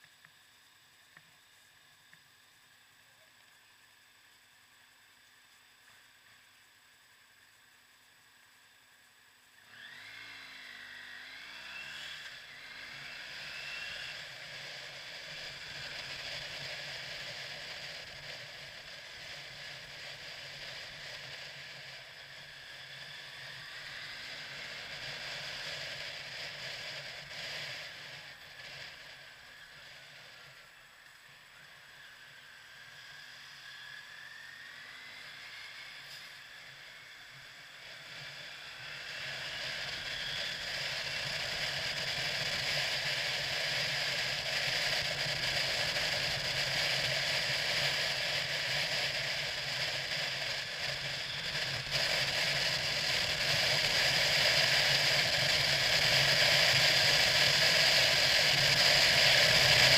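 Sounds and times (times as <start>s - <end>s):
motorcycle engine accelerating: 9.7s - 59.9s
wind and road noise: 9.7s - 59.9s.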